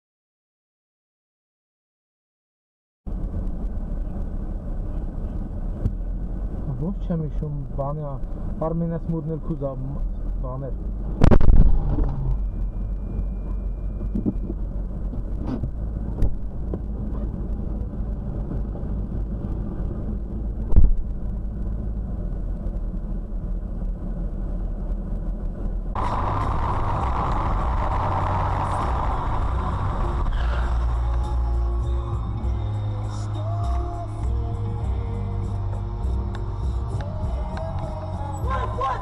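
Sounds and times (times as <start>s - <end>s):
car engine and road rumble: 3.1s - 39.0s
hissy road noise: 3.1s - 39.0s.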